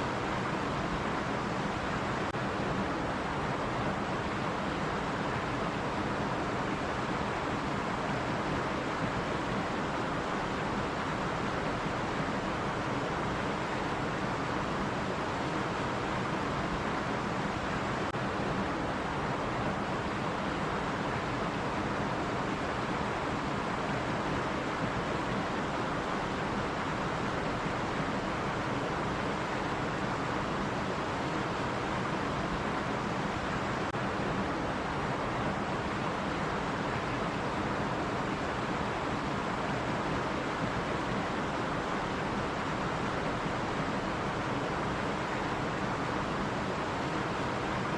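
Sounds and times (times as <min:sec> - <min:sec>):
stream water over rocks: 0:00.0 - 0:47.9.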